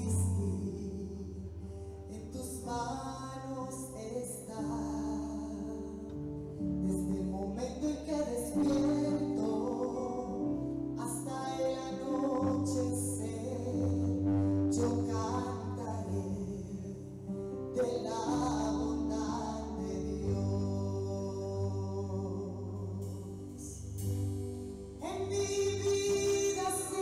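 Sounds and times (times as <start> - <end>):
person singing: 0.0 - 24.2, 25.0 - 27.0
slow held keyboard chords: 0.0 - 27.0.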